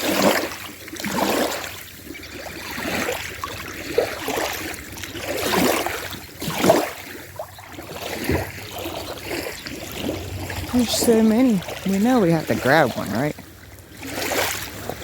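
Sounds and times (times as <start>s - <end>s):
small waves lapping on stony shore: 0.0s - 15.0s.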